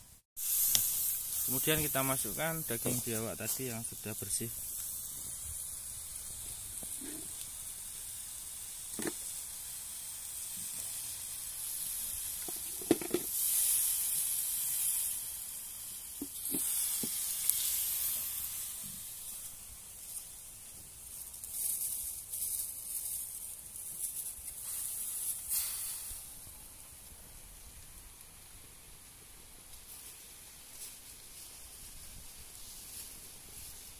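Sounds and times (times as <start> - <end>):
broth hissing in a wok: 0.0 - 33.9.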